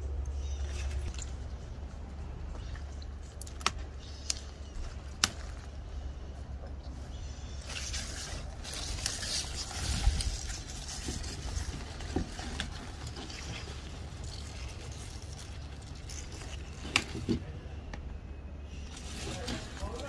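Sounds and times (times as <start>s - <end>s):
plant leaves rustling: 0.0s - 17.7s, 18.7s - 20.0s
steady low rumble: 0.0s - 20.0s.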